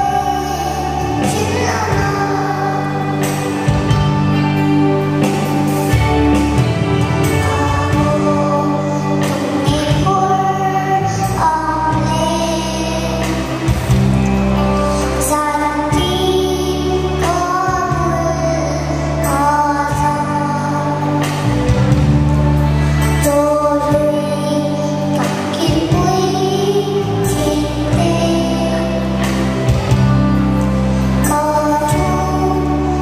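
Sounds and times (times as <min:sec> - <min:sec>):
boy singing into a microphone: 0:00.0 - 0:04.6, 0:07.1 - 0:33.0
instrumental accompaniment: 0:00.0 - 0:33.0.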